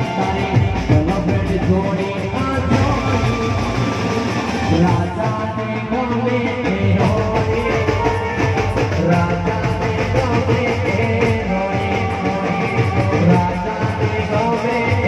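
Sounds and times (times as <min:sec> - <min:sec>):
drum beat: 0:00.0 - 0:15.0
man singing into microphone: 0:00.0 - 0:15.0.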